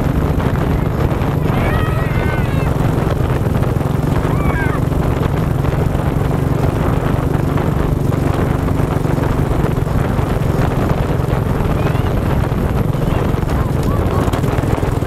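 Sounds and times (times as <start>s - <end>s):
quad engine running: 0.0s - 15.0s
rumble from rough ground: 0.0s - 15.0s.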